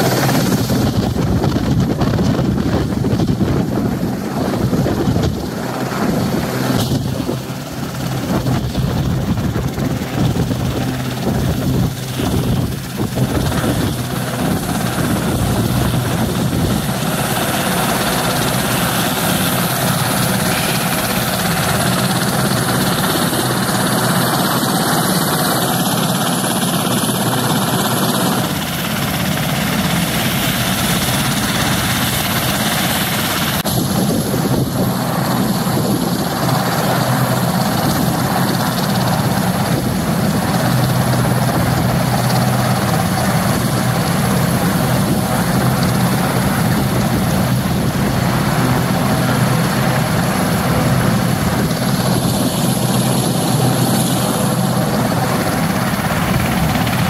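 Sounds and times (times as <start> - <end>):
helicopter rotor beating: 0.0 - 57.0
turbine engines running: 0.0 - 57.0.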